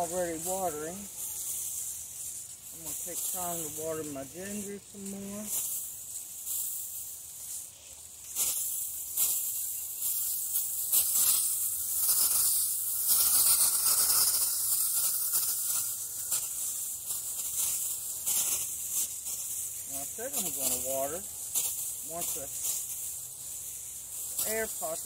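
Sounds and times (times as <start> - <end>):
water spraying from hose: 0.0 - 25.0.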